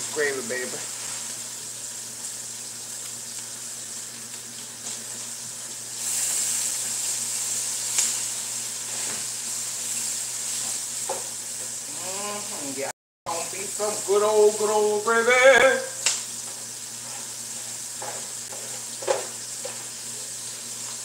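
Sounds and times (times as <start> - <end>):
oil sizzling in a frying pan: 0.0 - 21.0.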